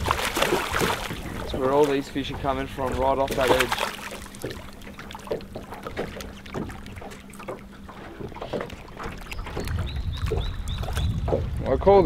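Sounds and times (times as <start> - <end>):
waves slapping against boat hull: 0.0 - 12.0.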